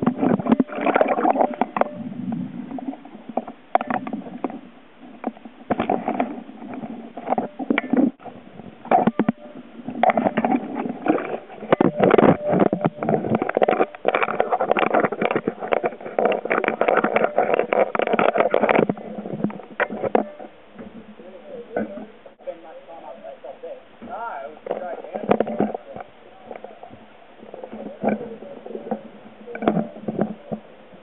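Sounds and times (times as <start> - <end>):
water churning and bubbling: 0.0 - 31.0.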